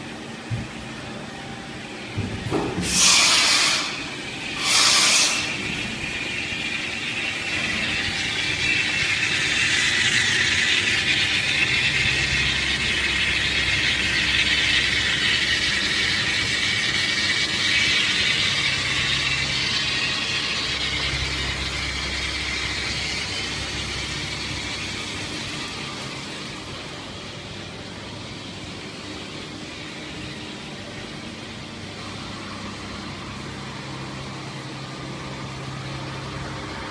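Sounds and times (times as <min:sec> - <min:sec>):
workshop machinery hiss: 0:01.8 - 0:34.8.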